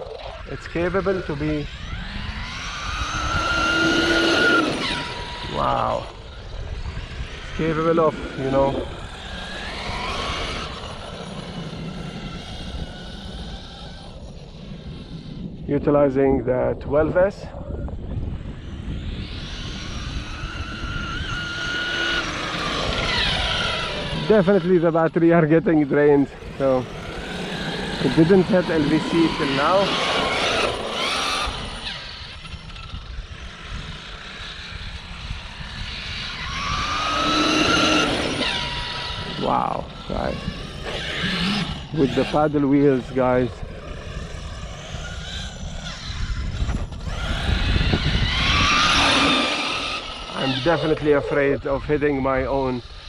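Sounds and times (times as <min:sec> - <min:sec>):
electric motor whine: 0:00.0 - 0:16.1, 0:16.8 - 0:53.0.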